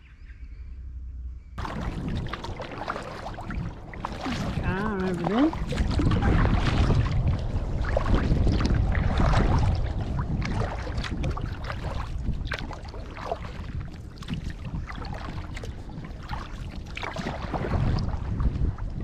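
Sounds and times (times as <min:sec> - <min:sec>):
wind rumbling on microphone: 0:00.0 - 0:19.0
paddle strokes splashing: 0:01.6 - 0:18.5
water lapping against kayak: 0:01.6 - 0:19.0.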